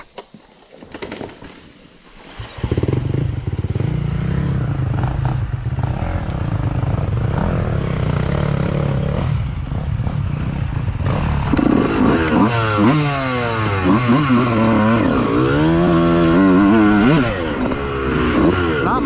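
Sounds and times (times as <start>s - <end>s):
dirt bike engine revving: 2.2s - 19.0s.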